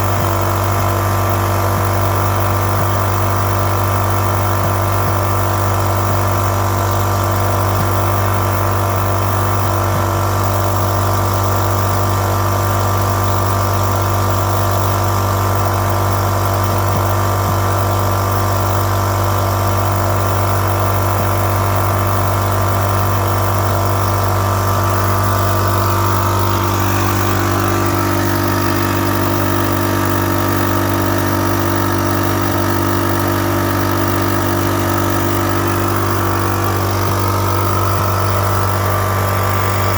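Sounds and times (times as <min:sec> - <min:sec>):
portable generator engine running: 0:00.0 - 0:39.9.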